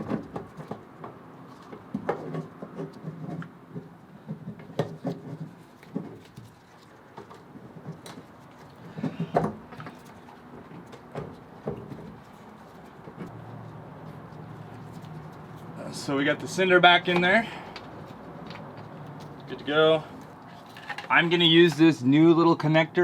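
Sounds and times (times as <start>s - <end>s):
fuel pump clicking and scraping: 0.0s - 22.0s.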